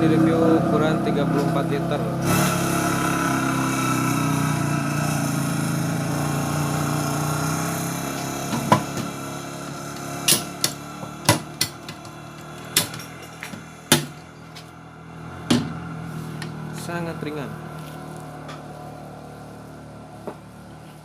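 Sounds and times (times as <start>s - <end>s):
motor engine running: 0.0s - 21.0s.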